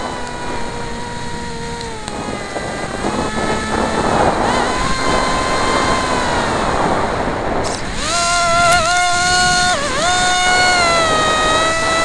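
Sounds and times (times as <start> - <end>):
electric motor and propeller whining: 0.0 - 12.0
wind rushing: 0.0 - 12.0.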